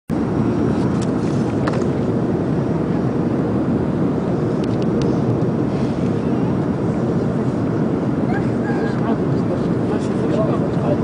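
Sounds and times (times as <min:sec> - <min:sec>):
jet airliner cabin rumble: 0:00.1 - 0:11.0.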